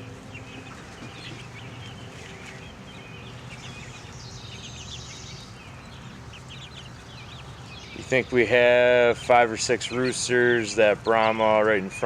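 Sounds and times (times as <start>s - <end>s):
chicks peeping: 0.0s - 12.0s
low background hum: 0.0s - 12.0s.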